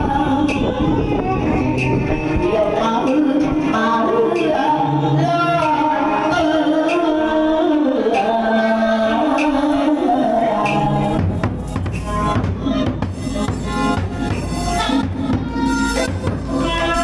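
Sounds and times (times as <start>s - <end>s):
opera singing voice: 0.0s - 17.0s.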